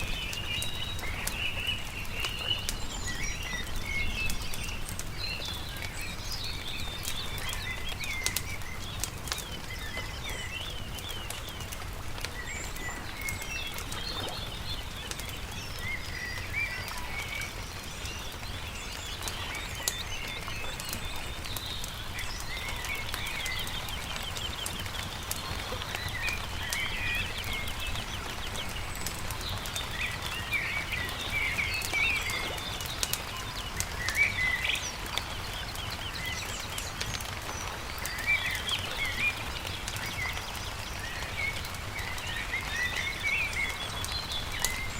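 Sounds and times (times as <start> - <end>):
campfire crackling: 0.0 - 44.9
songbirds chirping: 0.0 - 44.9.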